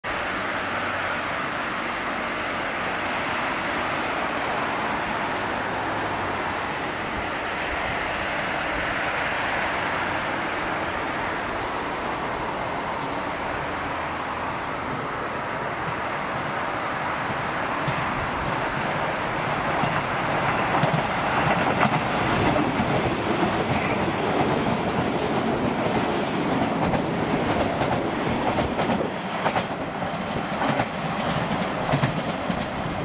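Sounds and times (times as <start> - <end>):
steady rushing noise: 0.1 - 33.0.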